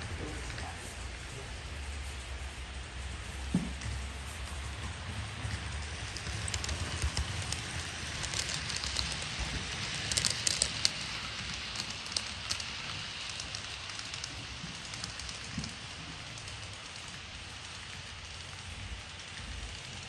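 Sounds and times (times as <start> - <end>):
model train wheels and motor hiss: 0.0 - 20.0
clicks over rail joints: 3.5 - 20.0.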